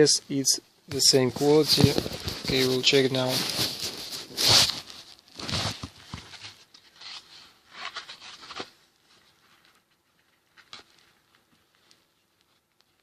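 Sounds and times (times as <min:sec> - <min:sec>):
plastic breadboard rustling and scraping: 0:00.9 - 0:13.0.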